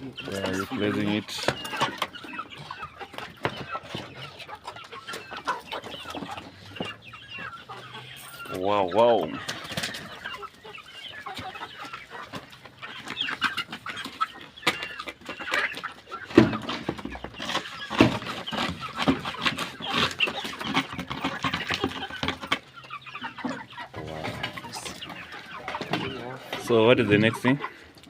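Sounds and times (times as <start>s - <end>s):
chicks cheeping: 0.0s - 28.0s.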